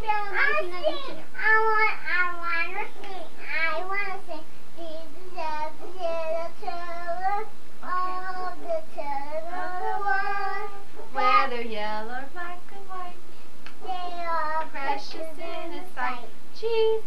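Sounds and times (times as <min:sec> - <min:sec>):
girl singing: 0:00.0 - 0:13.2, 0:13.8 - 0:17.0.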